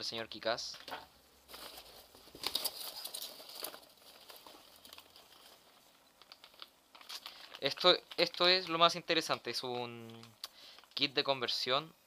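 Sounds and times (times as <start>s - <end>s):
packing peanuts rustling: 0.6s - 11.3s.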